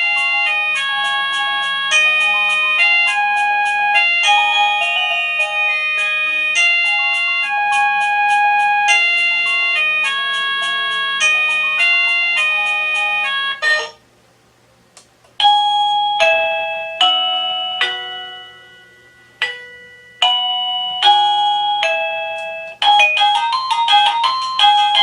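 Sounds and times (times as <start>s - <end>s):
doorbell chime tunes: 0.0s - 13.6s, 15.4s - 25.0s.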